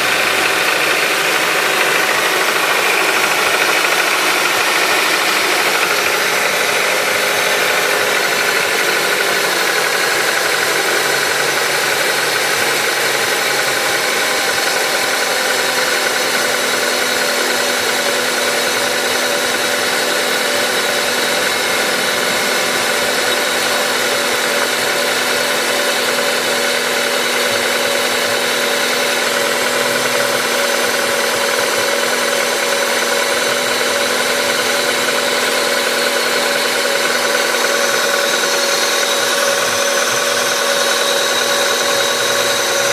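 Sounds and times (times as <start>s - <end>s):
car engine idling: 0.0s - 42.9s
engine knocking: 0.0s - 42.9s.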